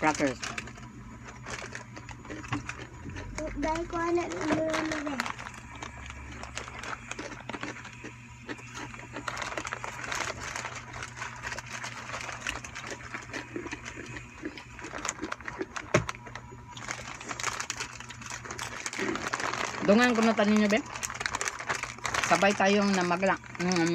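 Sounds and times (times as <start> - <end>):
faint low hum: 0.0 - 23.9
crackers being chewed: 0.1 - 23.9.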